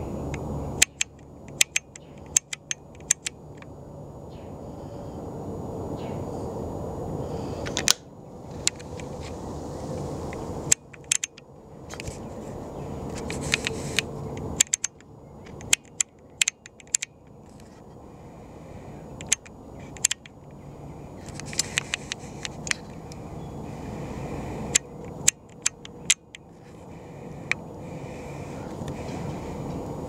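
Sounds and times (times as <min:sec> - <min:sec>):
low noise: 0:00.0 - 0:30.0.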